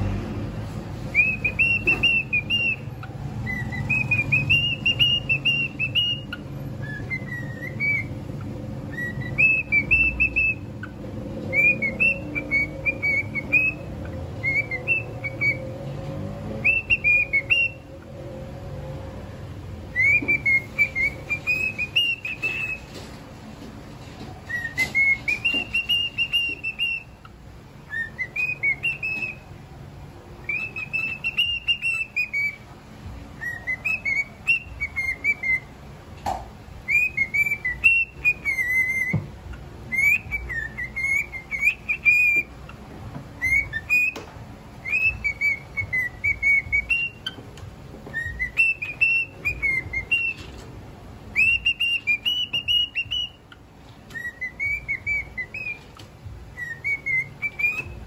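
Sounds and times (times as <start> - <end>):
cockatiel whistling song: 0.9 - 19.2, 19.8 - 23.0, 24.4 - 29.6, 30.3 - 58.0.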